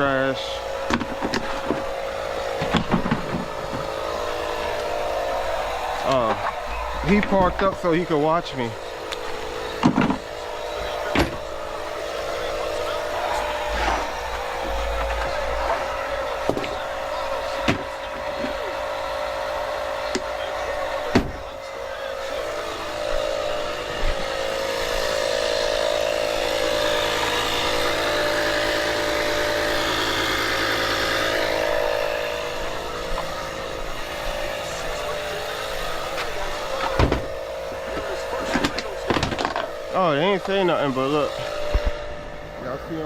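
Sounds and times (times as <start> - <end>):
broad noise: 0.0 - 43.0
vehicle engine humming: 0.0 - 43.0.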